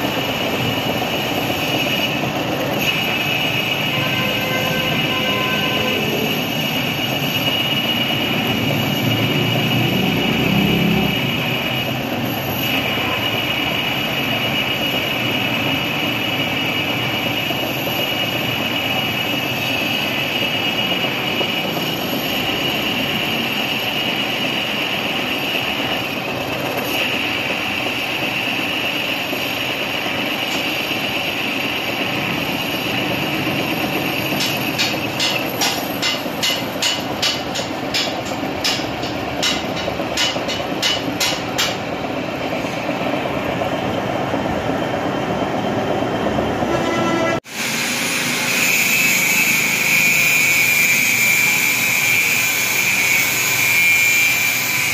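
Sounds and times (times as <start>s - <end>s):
metal lathe cutting steel: 0.0s - 45.7s, 46.4s - 54.9s.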